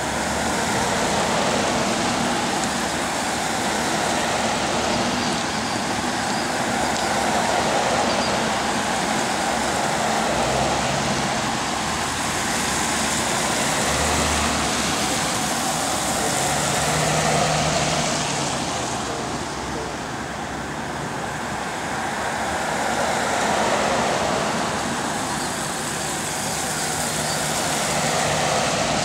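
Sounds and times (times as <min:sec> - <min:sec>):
tyre hiss on wet pavement: 0:00.0 - 0:29.0.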